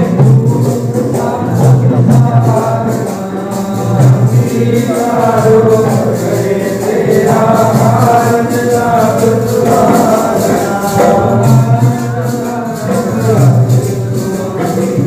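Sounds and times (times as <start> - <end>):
jingling percussion: 0.0 - 15.0
man singing: 0.0 - 15.0.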